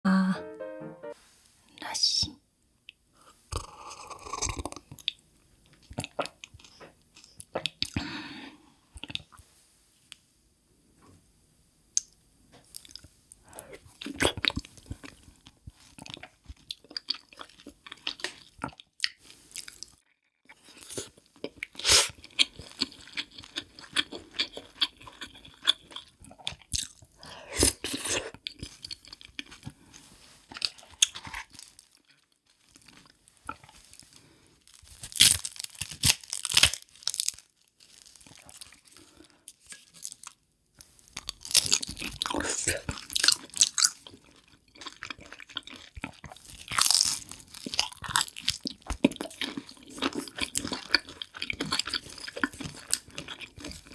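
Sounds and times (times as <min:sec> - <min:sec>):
person chewing crunchy food: 0:03.3 - 0:08.1, 0:09.0 - 0:09.4, 0:12.6 - 0:53.9.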